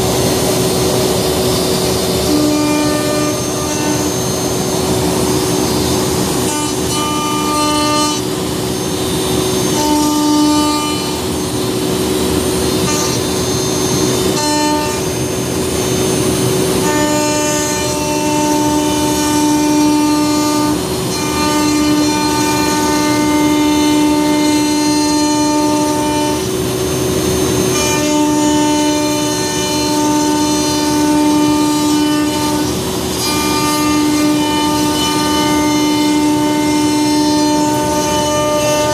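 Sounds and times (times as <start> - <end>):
machine whining tone: 0.0 - 38.9
router cutting hiss: 0.0 - 38.9.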